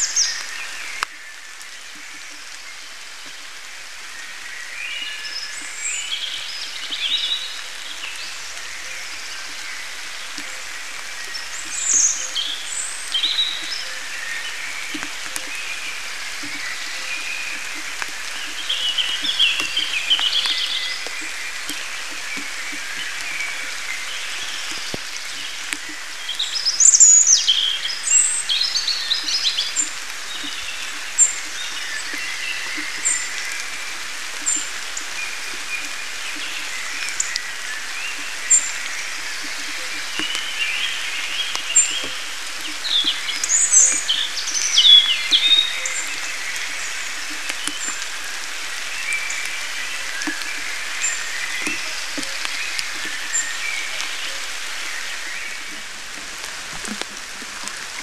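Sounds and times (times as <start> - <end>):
songbirds singing: 0.0 - 58.0
steady rain falling: 0.0 - 58.0.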